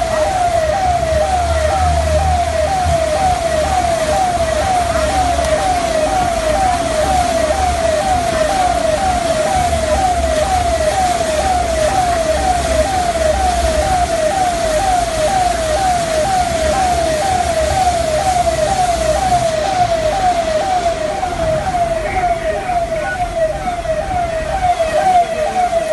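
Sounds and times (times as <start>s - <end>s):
background noise: 0.0s - 25.9s
electronic siren wailing: 0.0s - 25.9s.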